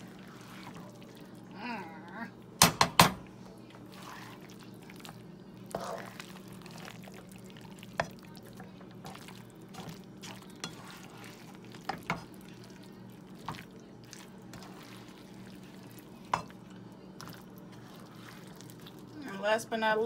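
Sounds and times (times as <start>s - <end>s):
thick food squishing: 0.0s - 2.6s, 3.3s - 19.4s.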